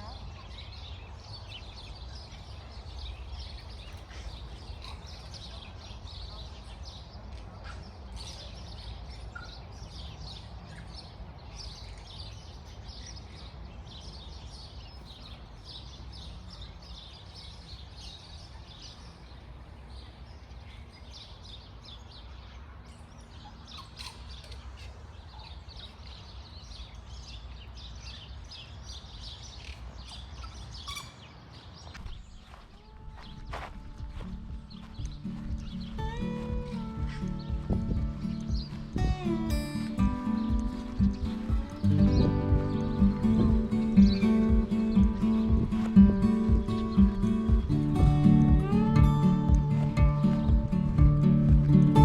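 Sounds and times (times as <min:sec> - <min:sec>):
bird chirping and twittering: 0:00.0 - 0:52.0.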